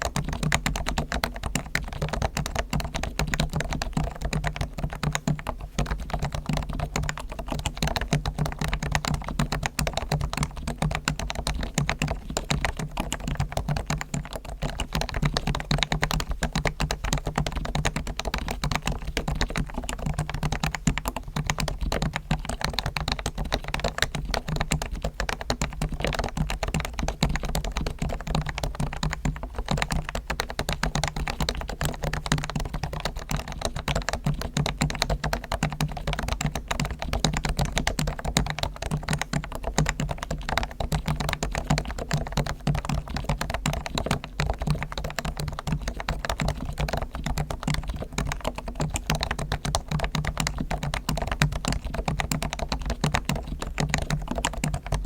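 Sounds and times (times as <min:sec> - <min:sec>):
fast typing on keyboard: 0:00.0 - 0:55.0.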